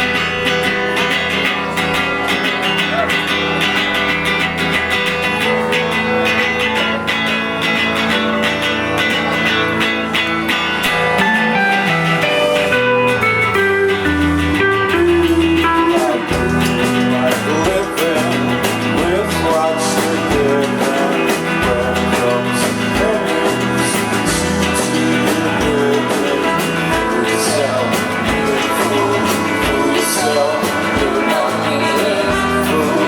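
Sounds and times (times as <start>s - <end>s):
band playing instrumental: 0.0s - 33.0s.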